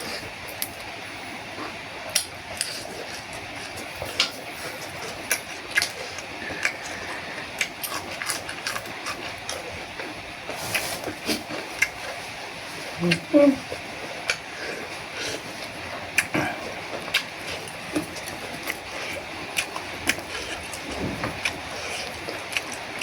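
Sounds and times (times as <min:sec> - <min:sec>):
crunchy chewing: 0:01.5 - 0:23.0.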